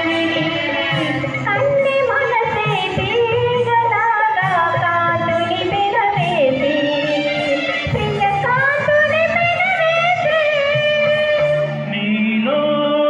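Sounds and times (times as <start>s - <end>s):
woman singing into a microphone: 0.0s - 11.9s
amplified backing music: 0.0s - 13.0s.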